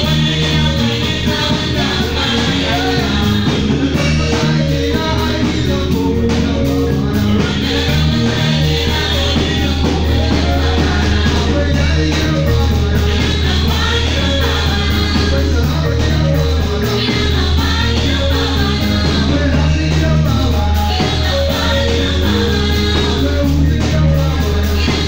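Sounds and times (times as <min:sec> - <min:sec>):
church band music over loudspeaker: 0:00.0 - 0:25.0
person singing: 0:00.0 - 0:25.0.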